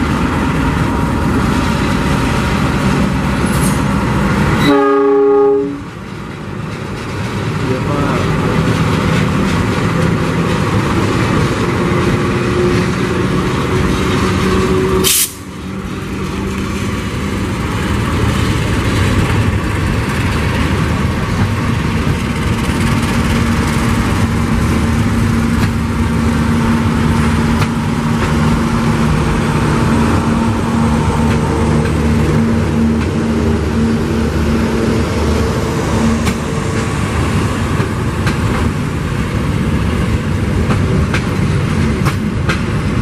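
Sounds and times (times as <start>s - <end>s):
locomotive engine passing: 0.0s - 43.0s
train wheels rumbling on rails: 0.0s - 43.0s.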